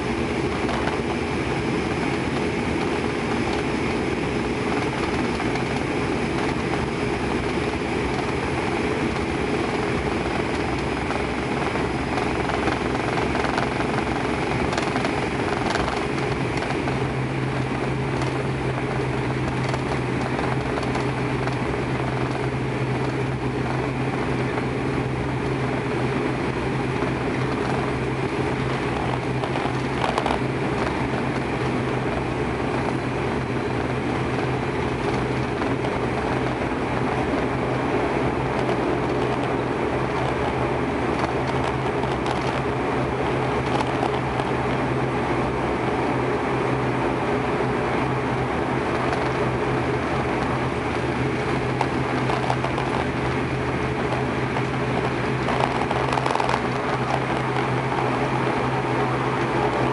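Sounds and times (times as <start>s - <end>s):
propeller engine drone: 0.0s - 59.9s
steady low hum: 0.0s - 59.9s.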